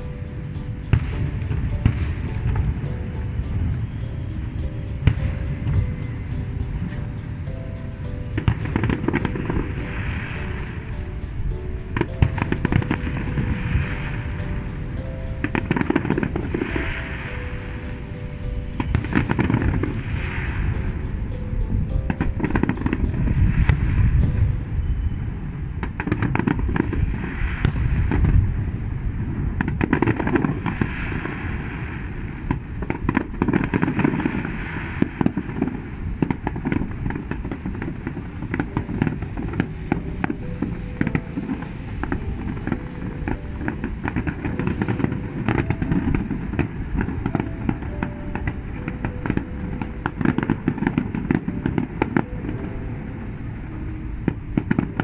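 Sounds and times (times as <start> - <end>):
deep rumble: 0.0 - 55.0
fireworks bangs and crackling: 0.0 - 55.0.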